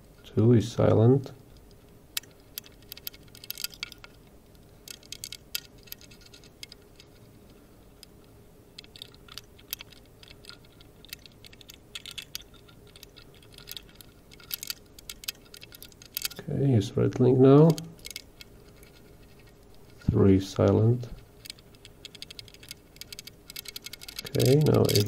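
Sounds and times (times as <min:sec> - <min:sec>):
lock-picking tools clicking: 0:01.6 - 0:07.2, 0:08.0 - 0:16.5, 0:17.1 - 0:25.0.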